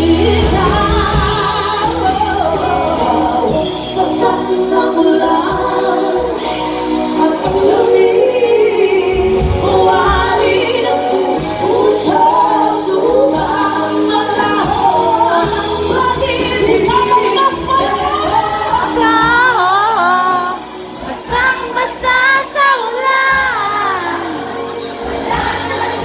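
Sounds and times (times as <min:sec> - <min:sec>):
bass guitar: 0:00.0 - 0:26.0
drums: 0:00.0 - 0:26.0
electric guitar: 0:00.0 - 0:26.0
women singing with vibrato: 0:00.0 - 0:26.0.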